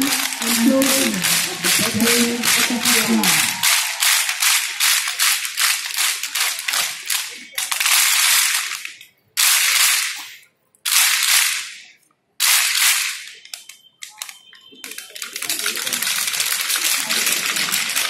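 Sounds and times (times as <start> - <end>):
group clapping: 0.0 - 11.8, 12.4 - 18.0.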